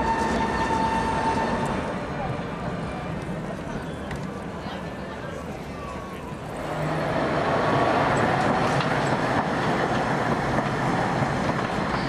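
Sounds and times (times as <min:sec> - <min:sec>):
tram wheels rolling on rails: 0:00.0 - 0:12.0.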